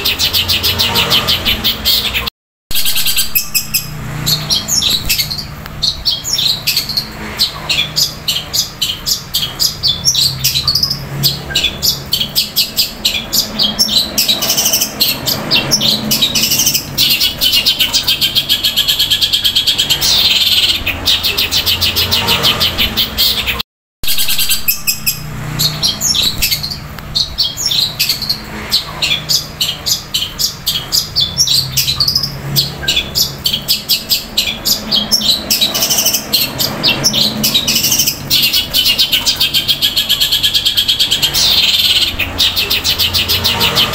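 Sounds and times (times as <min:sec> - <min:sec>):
bird chattering chirps: 0:00.0 - 0:43.9.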